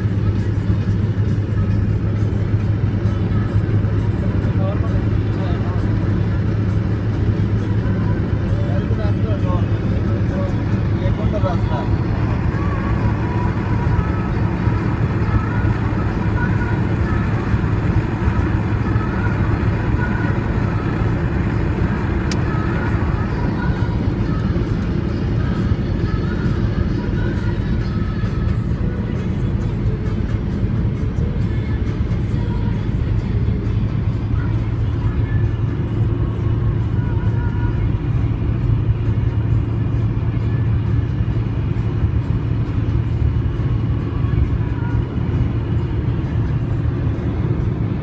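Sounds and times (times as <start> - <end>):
car road and engine noise: 0.0 - 48.0
faint music: 0.0 - 48.0.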